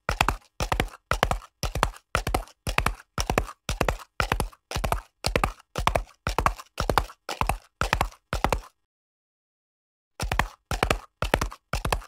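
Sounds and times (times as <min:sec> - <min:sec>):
horse galloping on hard ground: 0:00.0 - 0:08.8, 0:10.2 - 0:12.0.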